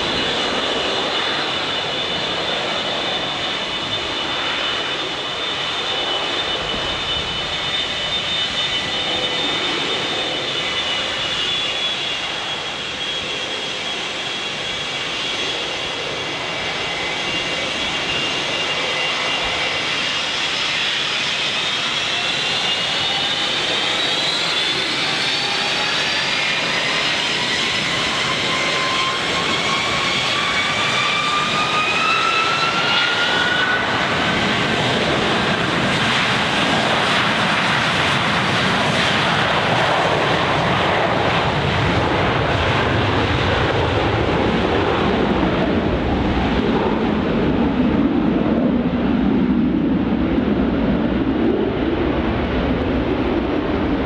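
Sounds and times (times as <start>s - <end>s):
jet engine roar: 0.0s - 54.0s
jet engines spooling up: 0.0s - 54.0s.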